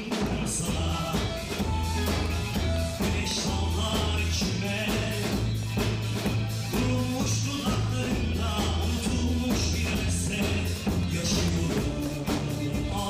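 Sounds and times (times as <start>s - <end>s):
rock band playing: 0.0s - 13.0s
prominent bass line: 0.3s - 13.0s.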